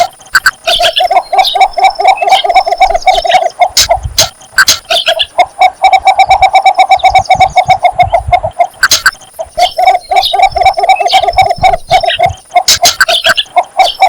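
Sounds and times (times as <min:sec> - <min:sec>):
bittern calling: 0:00.0 - 0:14.0.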